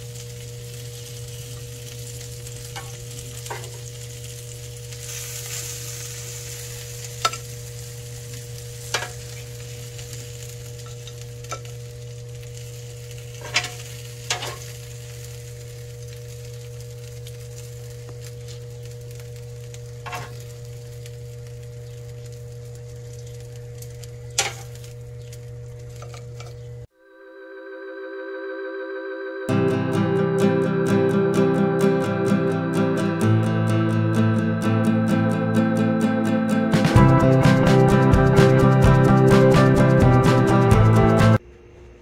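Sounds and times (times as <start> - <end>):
chicken wings sizzling on grill: 0.0 - 26.9, 29.5 - 41.4.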